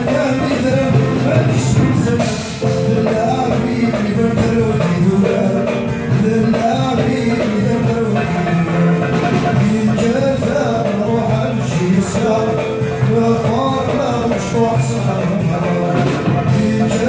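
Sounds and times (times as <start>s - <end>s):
hand drum beat: 0.0s - 17.0s.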